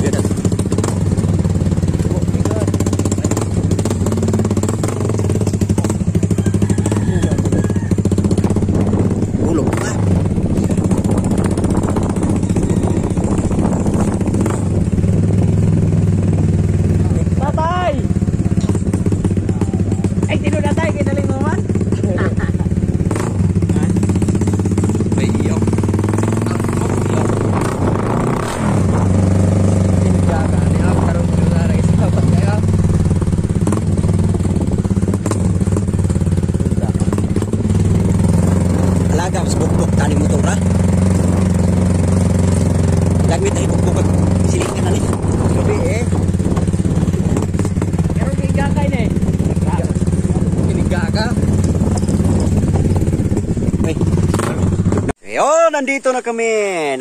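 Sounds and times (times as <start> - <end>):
motorcycle engine running: 0.0 - 55.2.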